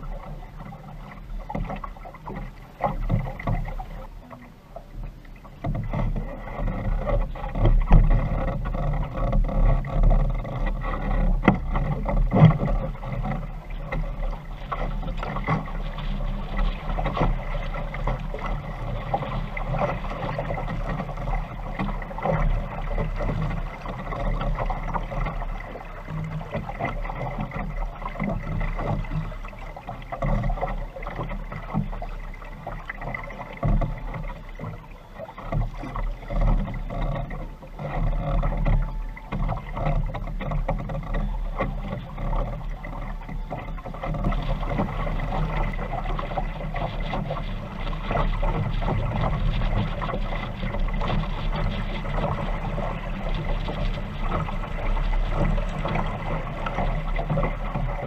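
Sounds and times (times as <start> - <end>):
water slapping along a hull: 0.0 - 58.0
wind rumbling on microphone: 0.0 - 58.0.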